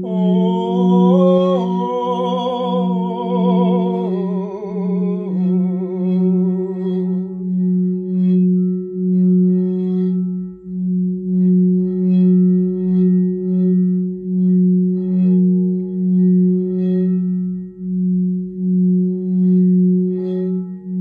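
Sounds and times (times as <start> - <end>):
singing bowl tone: 0.0 - 21.0.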